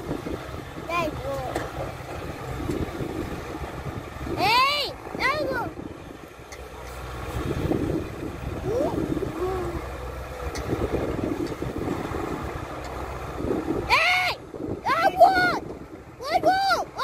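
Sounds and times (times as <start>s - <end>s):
diesel engine low rumble: 0.0s - 17.0s.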